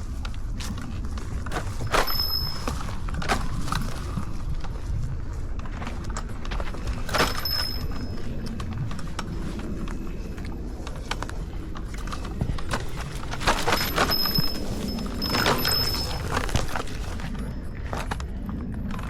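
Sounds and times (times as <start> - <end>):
wind and ground rumble: 0.0 - 19.0
knocks and rattles from bumps: 0.2 - 4.9, 5.5 - 10.0, 10.8 - 18.2.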